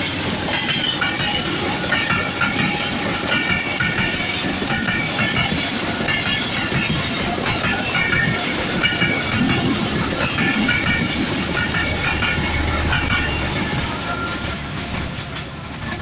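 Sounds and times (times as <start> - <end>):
train wheels clattering over rail joints: 0.0 - 16.0
high ringing tones: 0.4 - 14.6.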